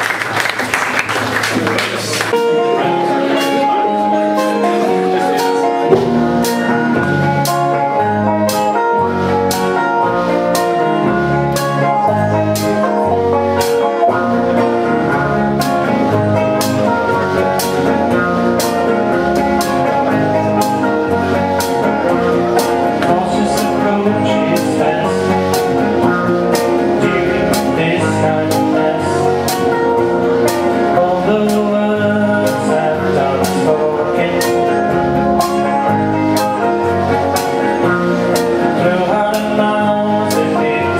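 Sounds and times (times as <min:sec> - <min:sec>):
live band playing upbeat song: 0:00.0 - 0:40.9.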